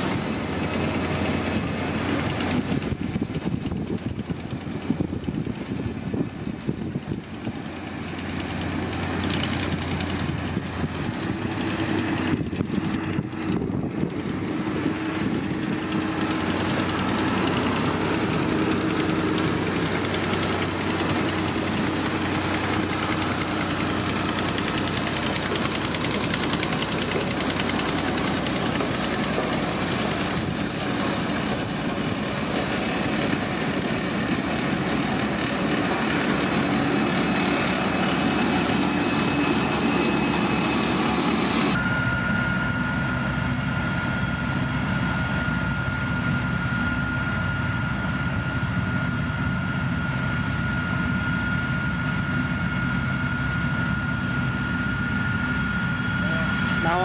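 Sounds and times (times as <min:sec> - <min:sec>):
diesel road roller engines: 0:00.0 - 0:57.0
thin high whine: 0:11.2 - 0:57.0.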